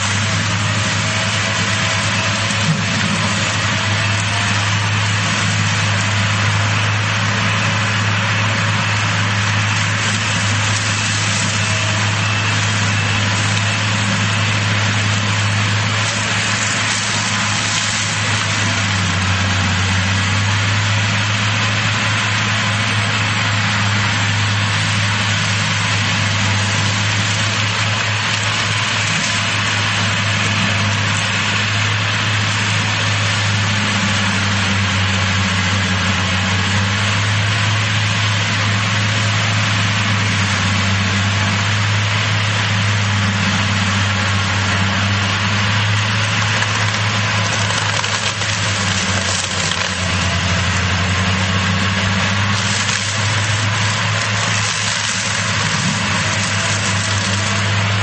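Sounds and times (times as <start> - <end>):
heavy diesel machines droning: 0.0 - 58.0.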